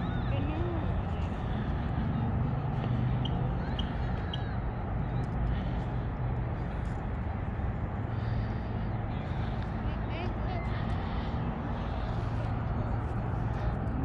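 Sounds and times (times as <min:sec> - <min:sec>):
distant traffic hum: 0:00.0 - 0:14.0
faint voices: 0:00.0 - 0:14.0.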